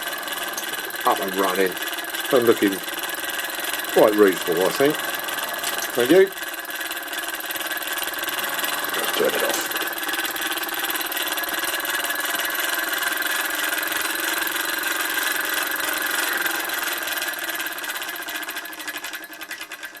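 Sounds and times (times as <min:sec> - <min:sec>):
model steam engine running: 0:00.0 - 0:20.0.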